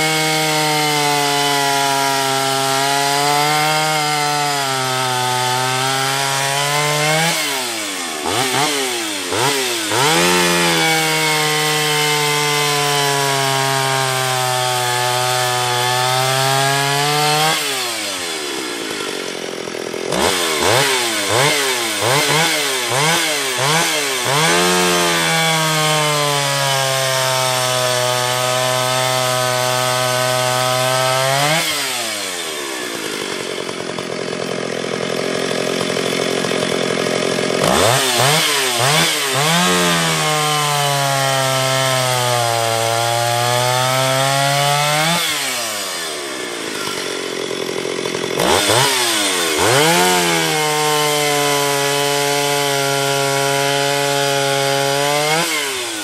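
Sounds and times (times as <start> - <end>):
chainsaw cutting wood: 0.0 - 56.0
chainsaw throttle blips: 0.0 - 56.0.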